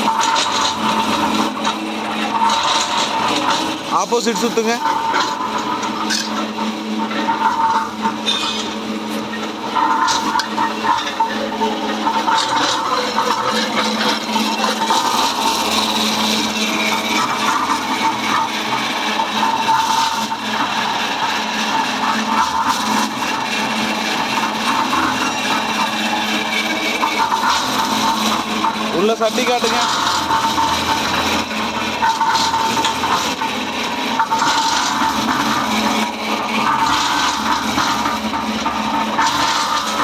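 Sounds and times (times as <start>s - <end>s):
concrete mixer rattling: 0.0s - 40.0s.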